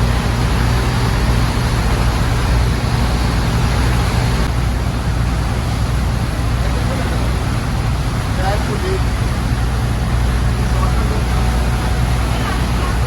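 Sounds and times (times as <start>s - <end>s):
broad rushing noise: 0.0s - 13.0s
ship engine drone: 0.0s - 13.0s.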